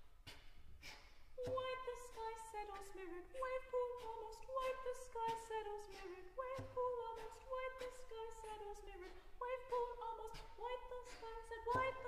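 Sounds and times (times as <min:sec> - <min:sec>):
soprano singing: 0:01.4 - 0:12.0.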